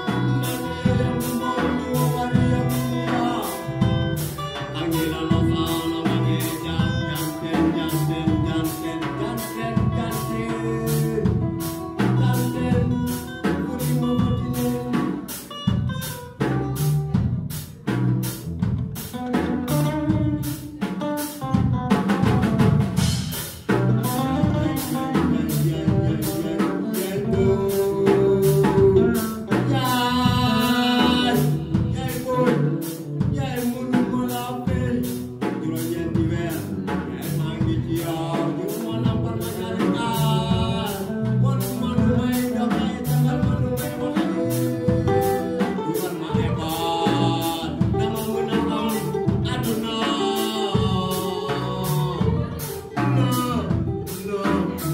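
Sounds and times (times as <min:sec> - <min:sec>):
man singing into a microphone: 0:00.0 - 0:15.8, 0:23.7 - 0:54.9
drum kit beat: 0:00.0 - 0:54.9
electric bass: 0:00.0 - 0:54.9
electric guitar: 0:00.0 - 0:54.9.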